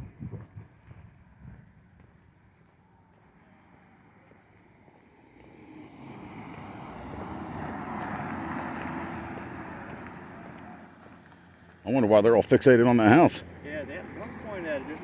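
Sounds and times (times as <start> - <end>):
vehicle driving past: 2.8 - 15.0.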